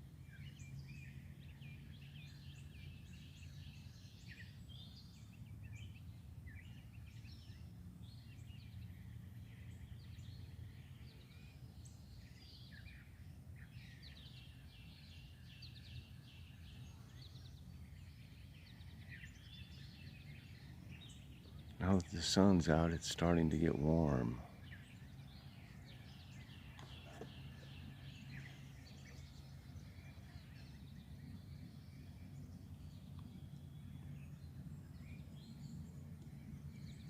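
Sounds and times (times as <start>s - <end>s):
distant songbirds chirping: 0.0s - 37.0s.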